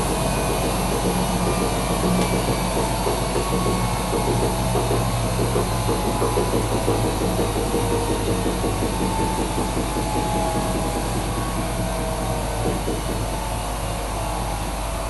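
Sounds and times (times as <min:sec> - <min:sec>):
washing machine motor whirring: 0:00.0 - 0:15.0.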